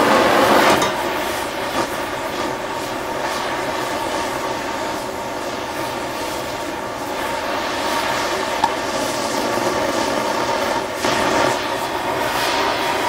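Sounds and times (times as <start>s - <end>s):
cutting torch flame hissing: 0.0s - 13.0s.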